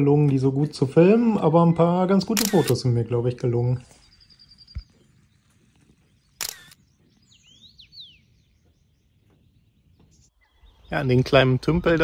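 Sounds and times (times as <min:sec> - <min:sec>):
bird calls: 0:00.9 - 0:12.0.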